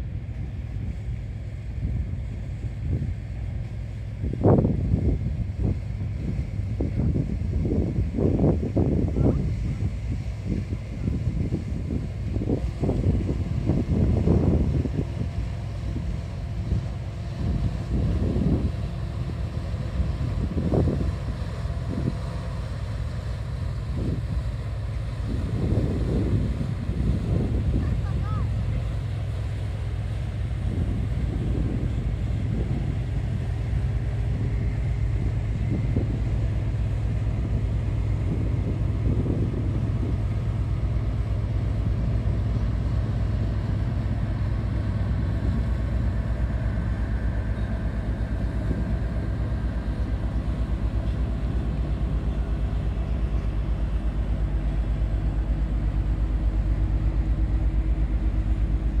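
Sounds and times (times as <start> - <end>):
ship diesel engine throbbing: 0.0 - 59.0.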